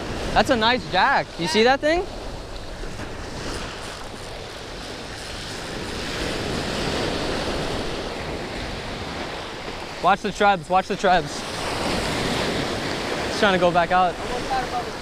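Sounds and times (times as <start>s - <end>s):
ocean surf breaking on sand: 0.0s - 15.0s.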